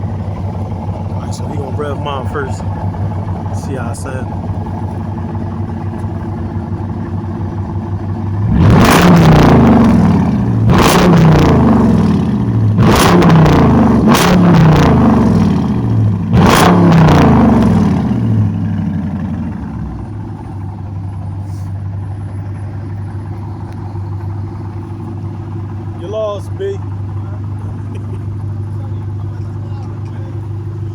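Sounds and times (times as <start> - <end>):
car engine idling: 0.0 - 30.9
car engine revving: 0.0 - 30.9.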